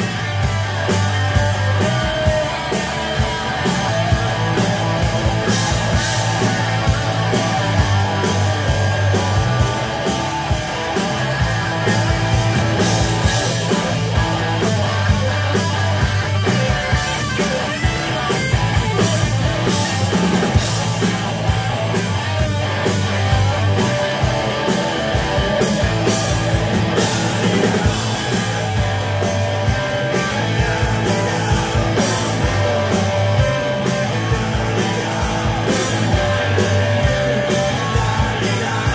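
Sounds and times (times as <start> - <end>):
bass guitar: 0.0 - 38.9
distorted electric guitars: 0.0 - 38.9
drum kit beat: 0.0 - 38.9.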